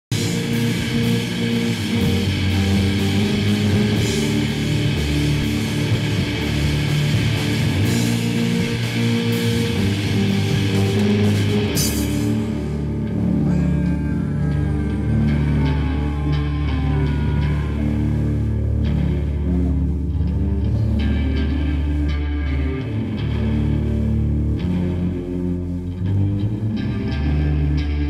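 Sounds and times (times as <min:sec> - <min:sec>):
heavy rock music: 0:00.1 - 0:28.0.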